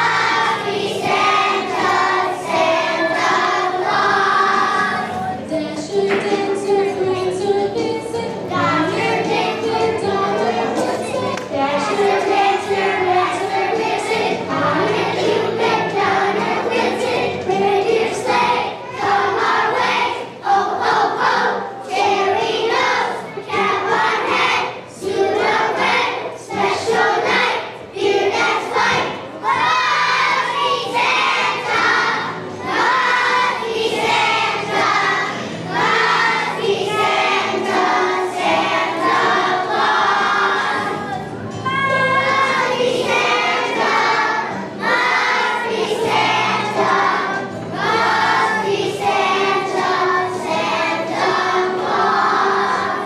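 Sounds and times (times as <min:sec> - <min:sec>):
children's choir singing: 0:00.0 - 0:53.0
musical accompaniment: 0:00.0 - 0:53.0.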